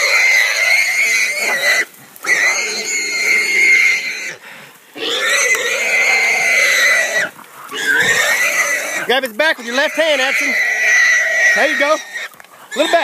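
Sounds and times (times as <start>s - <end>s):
hog squealing: 0.0s - 4.4s, 5.0s - 13.0s.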